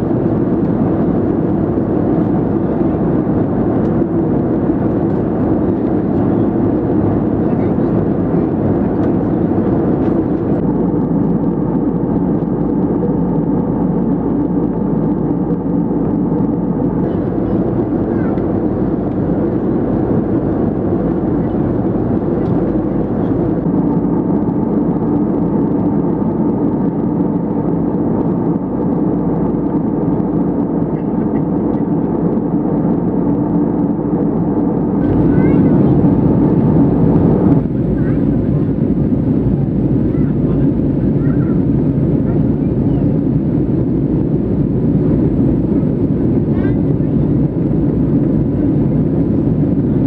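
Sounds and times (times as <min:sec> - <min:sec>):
airplane cabin roar: 0:00.0 - 0:50.0.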